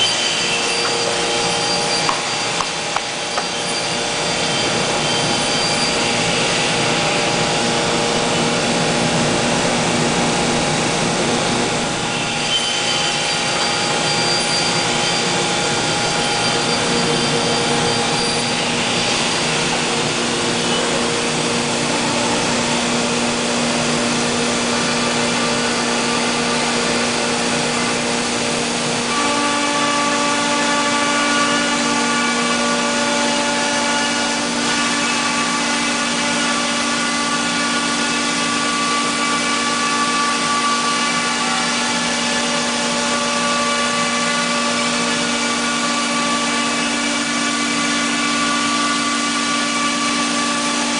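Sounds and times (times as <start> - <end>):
cnc machine cutting wood: 0.0 - 50.9
high-speed spindle whine: 0.0 - 50.9.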